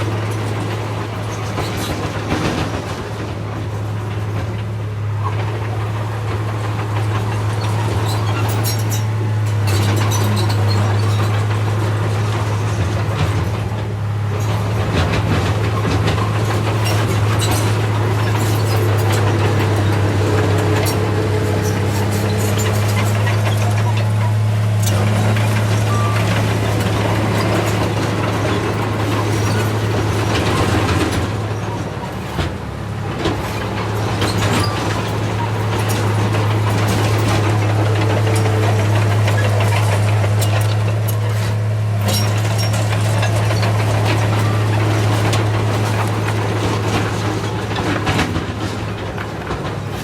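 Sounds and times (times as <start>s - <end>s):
diesel engine humming: 0.0s - 50.0s
metallic clanks and rattles: 6.4s - 50.0s.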